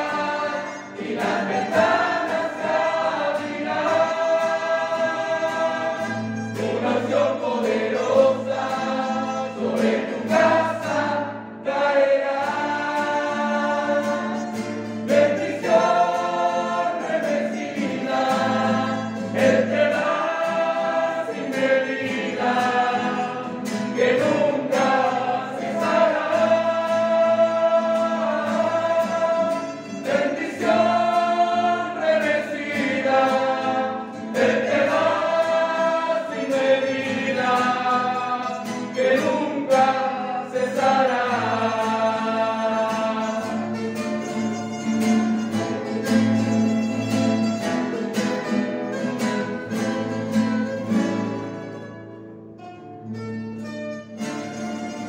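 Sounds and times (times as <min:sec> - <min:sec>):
mandolin: 0:00.0 - 0:11.7, 0:12.3 - 0:55.0
choir singing a hymn: 0:00.0 - 0:44.4
strummed acoustic guitars: 0:00.0 - 0:55.0.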